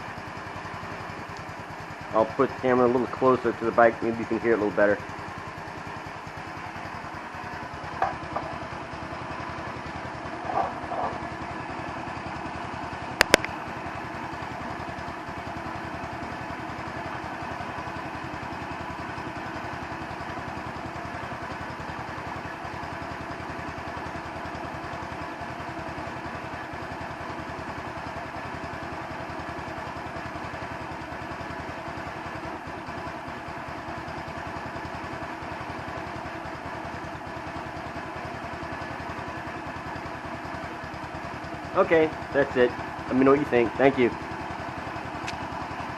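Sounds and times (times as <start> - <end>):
scooter engine idling: 0.0 - 45.9.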